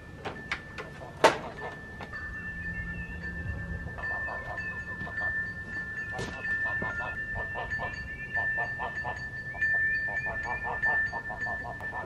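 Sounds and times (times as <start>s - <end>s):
continuous high animal tone: 0.7s - 12.0s.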